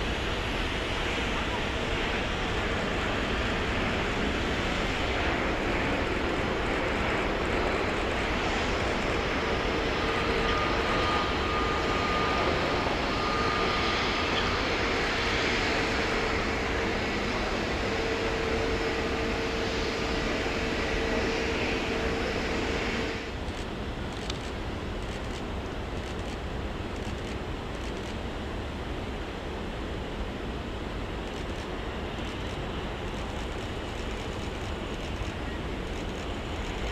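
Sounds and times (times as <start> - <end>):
faint jet engine whine: 0.0 - 36.9
jet engine rush: 0.0 - 36.9.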